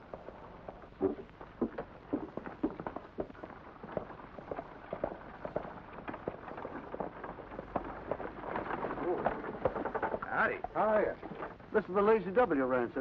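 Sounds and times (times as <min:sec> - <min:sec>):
horse hooves clopping on dirt: 0:00.0 - 0:13.0.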